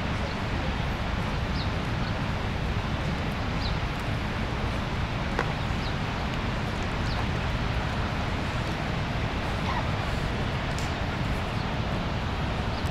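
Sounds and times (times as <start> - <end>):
waterfall roaring: 0.0 - 12.9.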